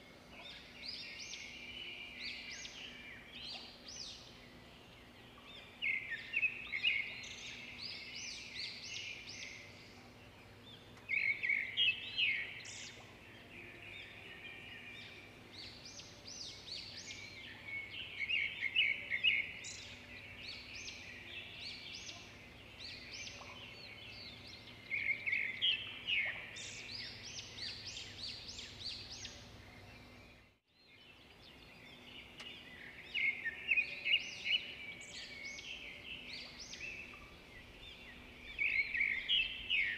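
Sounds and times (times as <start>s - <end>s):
faint steady hum: 0.0s - 39.9s
songbird chirping: 0.0s - 39.9s.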